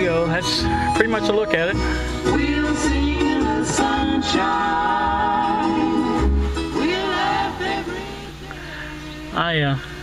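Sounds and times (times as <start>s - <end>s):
song from car speakers: 0.0s - 10.0s.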